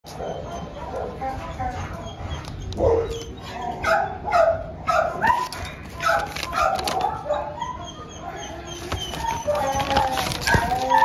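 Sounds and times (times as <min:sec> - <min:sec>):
dogs barking: 0:00.1 - 0:11.0.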